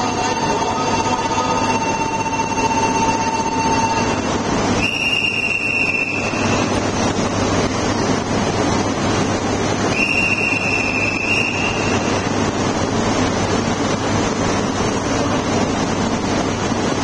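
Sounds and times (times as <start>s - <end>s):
train equipment running hum: 0.0s - 17.0s.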